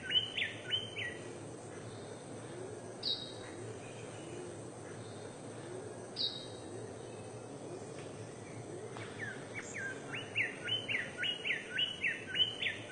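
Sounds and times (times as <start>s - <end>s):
steady background hiss: 0.0s - 12.9s.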